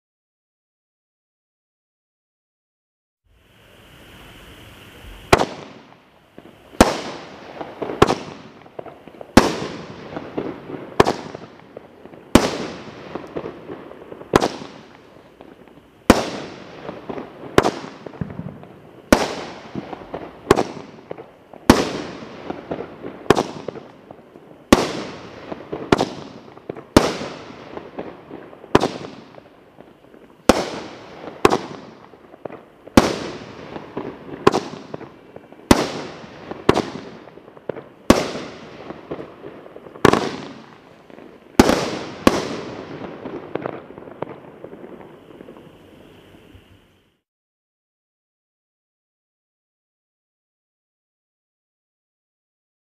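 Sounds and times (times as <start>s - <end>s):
firework bangs: 3.8s - 46.8s.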